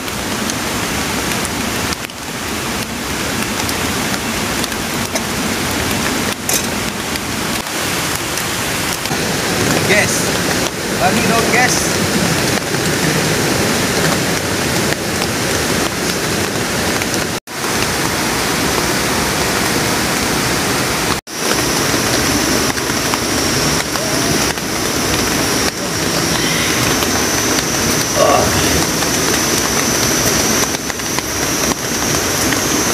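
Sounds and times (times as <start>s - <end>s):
forest stream over rocks: 0.0s - 32.9s
rain: 0.0s - 32.9s.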